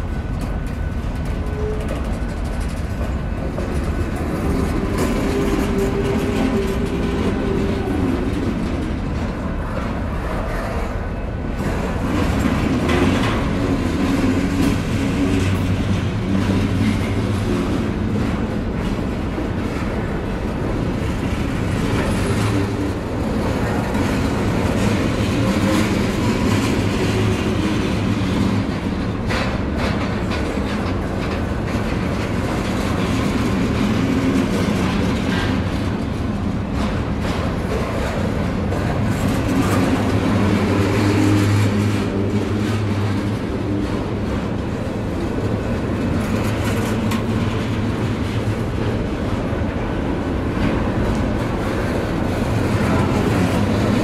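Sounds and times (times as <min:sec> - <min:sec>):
steel wheels rumbling on rail: 0:00.0 - 0:54.0
wheels clacking over rail joints: 0:00.0 - 0:54.0.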